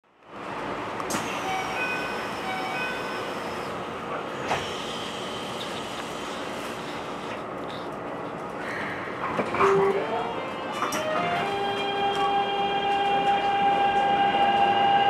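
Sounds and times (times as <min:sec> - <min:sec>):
train interior noise: 0:00.0 - 0:15.0.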